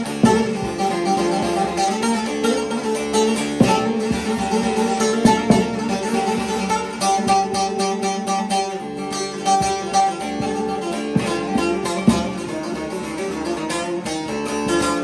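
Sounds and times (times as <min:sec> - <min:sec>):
plucked lute playing: 0:00.0 - 0:15.0.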